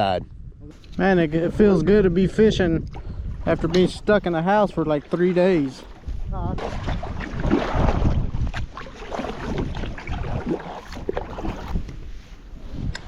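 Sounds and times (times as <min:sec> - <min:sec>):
wind rumbling on microphone: 0:00.0 - 0:13.0
water lapping against hull: 0:00.7 - 0:13.0.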